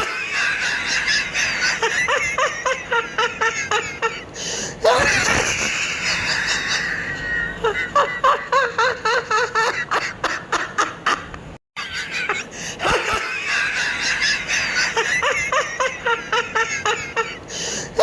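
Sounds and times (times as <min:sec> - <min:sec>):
person laughing high-pitched: 0:00.0 - 0:18.0.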